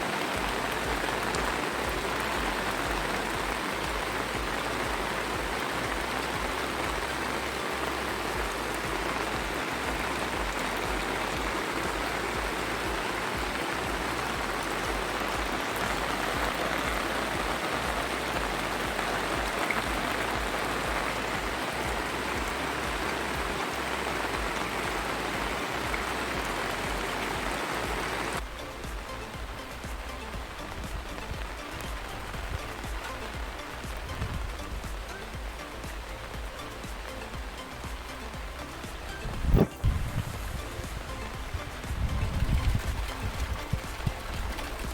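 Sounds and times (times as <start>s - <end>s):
falling water splashing: 0.0s - 44.9s.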